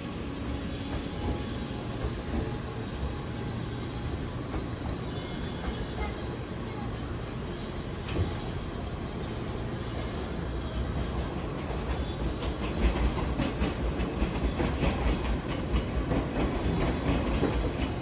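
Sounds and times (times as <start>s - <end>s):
train cars rumbling: 0.0s - 18.0s.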